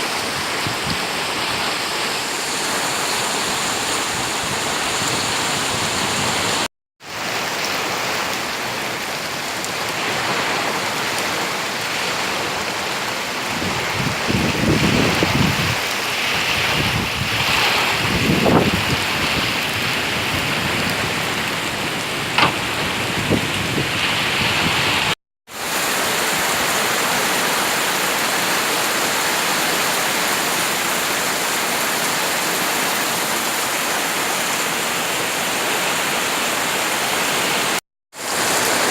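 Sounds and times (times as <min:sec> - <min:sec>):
wind gusts: 0:00.0 - 0:08.5, 0:09.8 - 0:38.9
heavy rain: 0:00.0 - 0:38.9.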